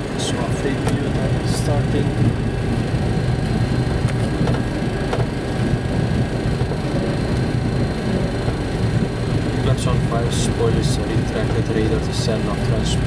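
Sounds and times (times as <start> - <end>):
airliner rolling on runway rumble: 0.0 - 13.0.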